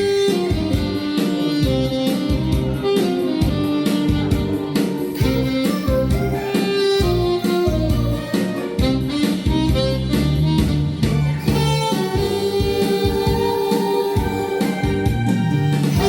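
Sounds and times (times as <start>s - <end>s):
drums bass and guitar accompaniment: 0.0s - 16.0s
saxophone melody: 0.0s - 16.0s.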